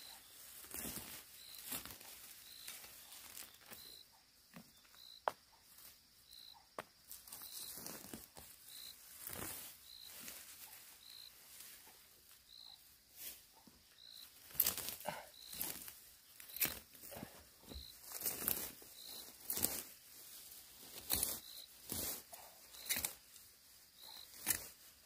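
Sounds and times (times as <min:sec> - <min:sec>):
weeds ripped from dry soil: 0:00.0 - 0:03.9, 0:07.1 - 0:12.0, 0:12.6 - 0:25.0.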